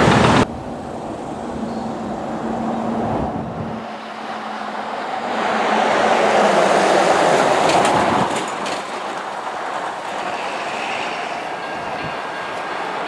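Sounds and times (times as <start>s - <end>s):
train wheels on track: 0.0s - 13.0s.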